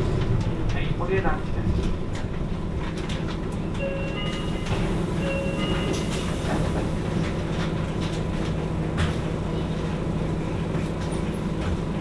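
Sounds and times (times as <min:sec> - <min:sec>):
bus diesel engine drone: 0:00.0 - 0:12.0
rattles and knocks from bus body: 0:00.0 - 0:12.0.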